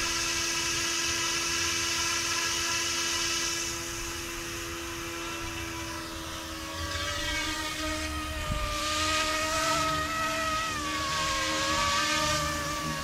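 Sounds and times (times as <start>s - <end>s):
rc helicopter motor whine: 0.0s - 13.0s
rushing rotor noise: 0.0s - 13.0s.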